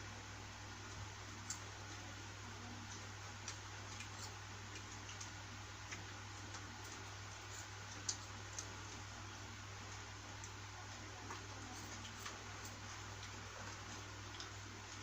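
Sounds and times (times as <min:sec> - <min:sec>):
low hum and hiss: 0:00.0 - 0:15.0
small clicks and ticks: 0:00.9 - 0:02.1, 0:02.9 - 0:15.0.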